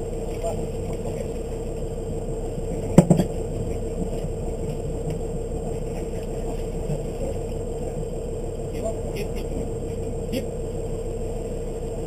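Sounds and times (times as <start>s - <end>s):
motorboat engine idling: 0.0s - 12.0s.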